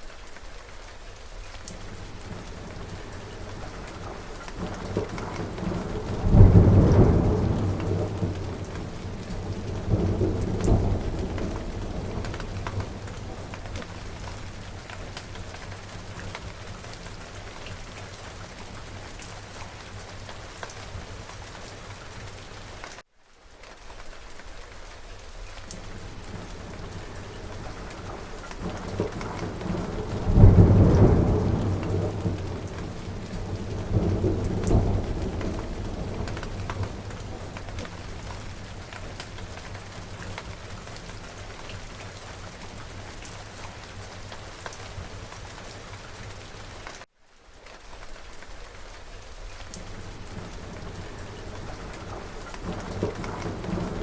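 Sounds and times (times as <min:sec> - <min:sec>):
steady rain: 0:00.0 - 0:54.0
thunder rumble: 0:01.8 - 0:22.7, 0:25.8 - 0:45.3, 0:49.8 - 0:54.0.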